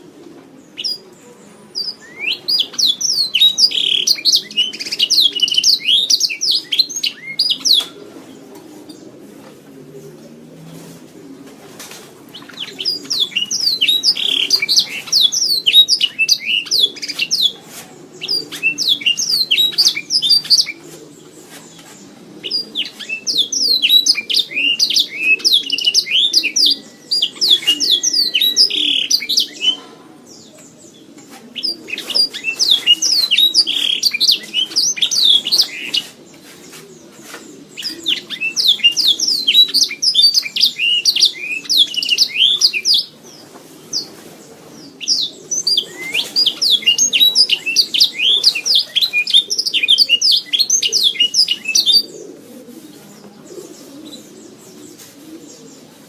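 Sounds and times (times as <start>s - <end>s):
canary singing: 0.7s - 9.1s, 12.3s - 55.9s.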